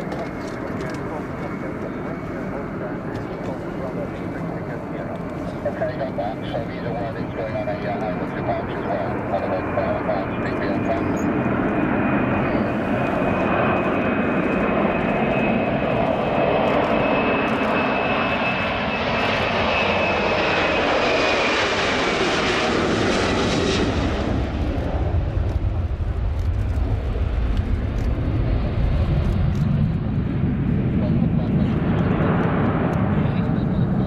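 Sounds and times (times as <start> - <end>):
jet engine roar: 0.0 - 34.0
jet engine whine: 0.0 - 34.0.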